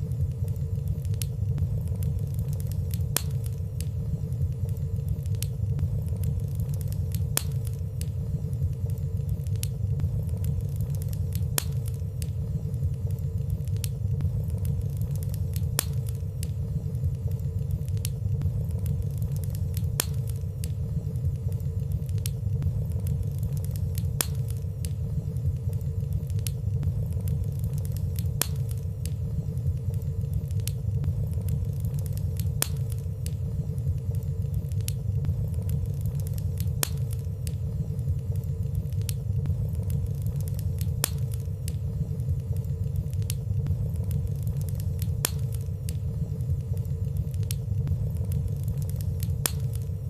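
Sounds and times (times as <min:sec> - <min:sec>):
wood fire burning and crackling: 0:00.0 - 0:50.0.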